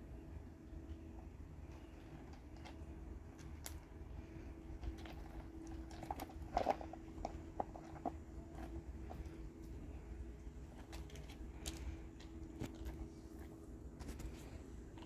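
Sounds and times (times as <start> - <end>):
steady low hum: 0.0 - 15.0
pebbles clicking and shifting: 1.0 - 15.0.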